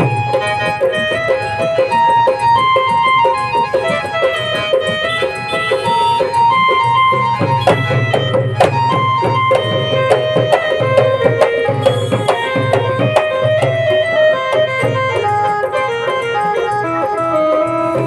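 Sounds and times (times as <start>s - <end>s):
barrel drum beaten quickly: 0.0s - 16.4s
melody of held notes: 0.0s - 18.0s.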